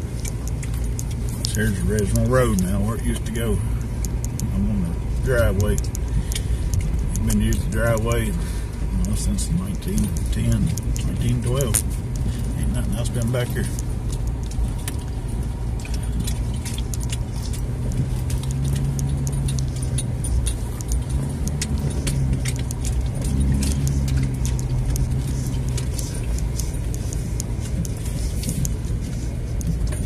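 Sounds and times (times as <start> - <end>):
light rattles and clicks: 0.0 - 30.0
pickup truck engine running: 0.0 - 30.0.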